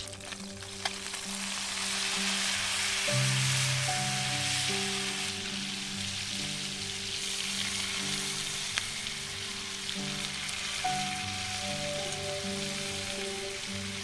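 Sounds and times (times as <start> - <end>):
background music of held notes: 0.0 - 14.0
fish sizzling in frying pan: 0.0 - 14.0.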